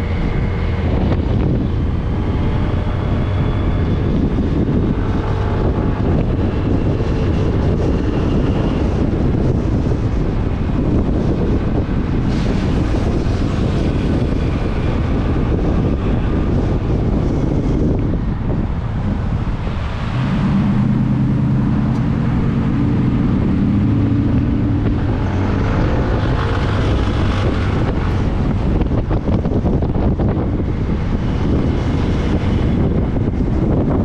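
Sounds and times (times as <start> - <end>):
wind rush on microphone: 0.0 - 34.0.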